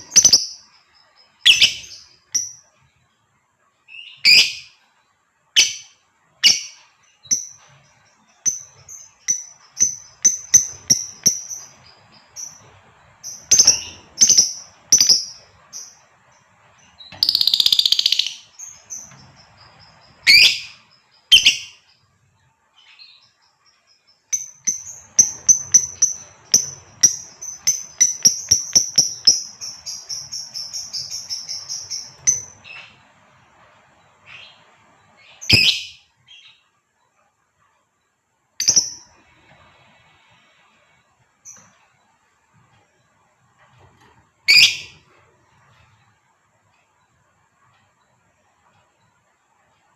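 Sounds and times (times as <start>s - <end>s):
lovebird chirping: 0.0s - 42.7s, 43.8s - 46.3s.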